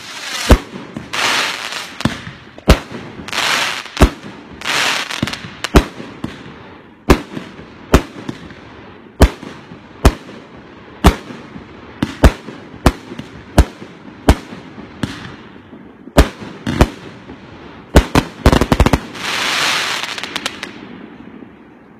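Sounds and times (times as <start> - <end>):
firework bangs: 0.0 - 21.2.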